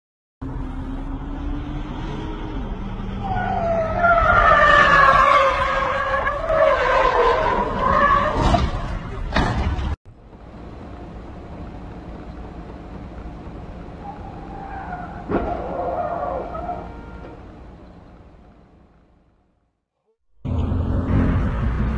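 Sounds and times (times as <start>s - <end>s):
road noise: 0.4s - 21.9s.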